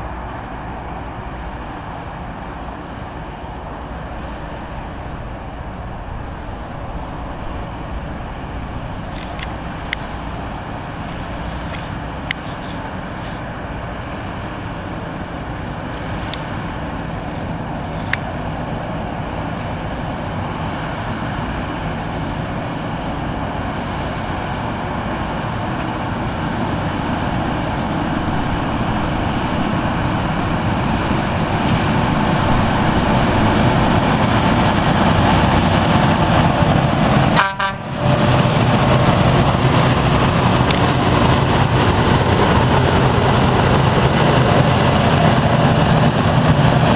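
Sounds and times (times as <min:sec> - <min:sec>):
rail grinder train rumbling: 0:00.0 - 0:46.9.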